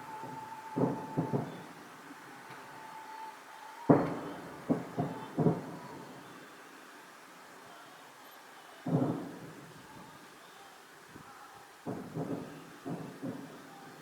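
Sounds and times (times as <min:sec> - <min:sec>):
fireworks booming: 0:00.0 - 0:07.0, 0:08.8 - 0:14.0.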